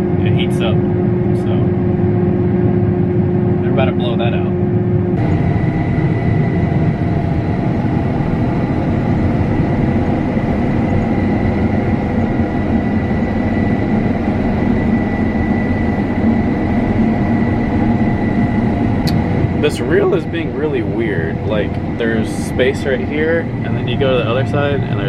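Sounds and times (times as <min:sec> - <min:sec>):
combine harvester drone: 0:00.0 - 0:25.0
high-pitched whine: 0:00.0 - 0:25.0.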